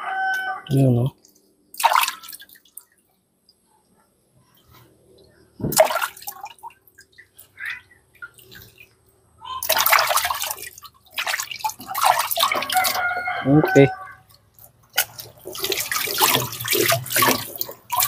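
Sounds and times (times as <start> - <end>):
water splashing in a metal pot: 1.1 - 3.2, 5.6 - 18.0.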